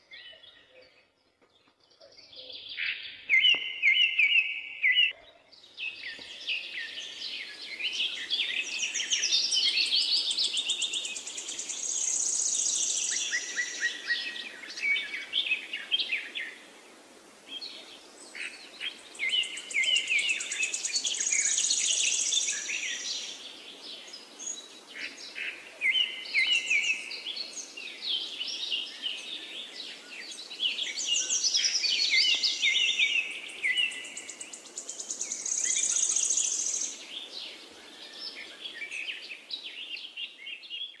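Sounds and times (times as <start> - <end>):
birds chirping and singing: 0.0 - 16.6, 17.5 - 41.0.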